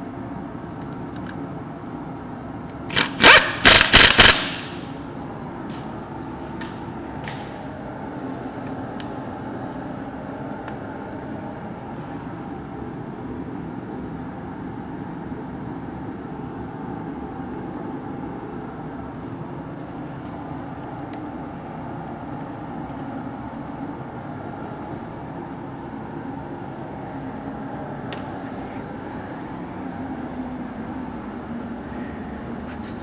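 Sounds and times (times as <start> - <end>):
mechanical hum: 0.0 - 33.0.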